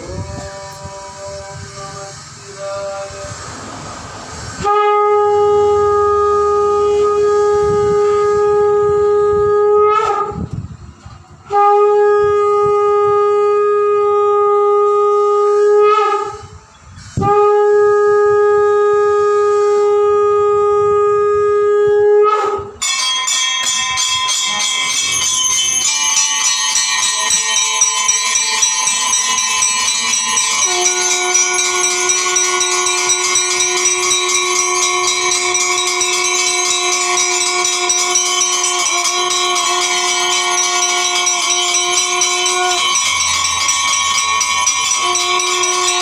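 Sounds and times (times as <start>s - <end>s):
conch shell blasts: 4.5s - 10.5s, 11.4s - 46.0s.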